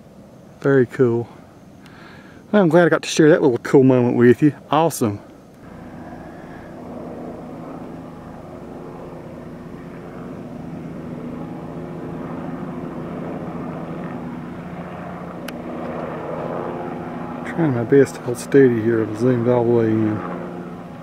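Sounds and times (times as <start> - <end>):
helicopter rotors droning: 0.0 - 21.0.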